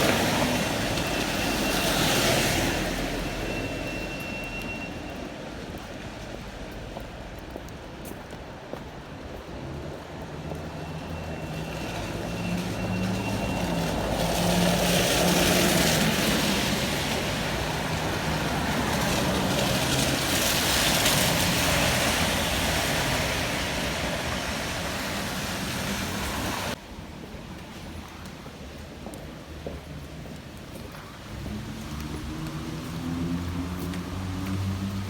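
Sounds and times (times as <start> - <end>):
tyre noise on wet road: 0.0 - 35.0.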